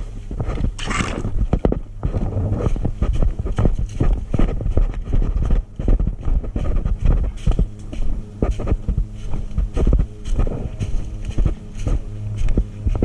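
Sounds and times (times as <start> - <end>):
low rumble: 0.0 - 13.0
running footsteps: 0.0 - 13.0
rustling and scuffing: 0.0 - 13.0.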